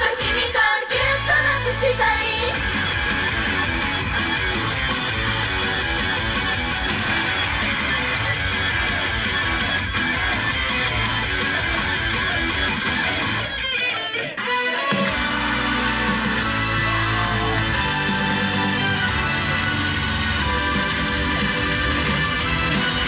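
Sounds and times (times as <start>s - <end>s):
heavy rock music: 0.0s - 23.0s
distorted electric guitar riffing: 1.2s - 23.0s.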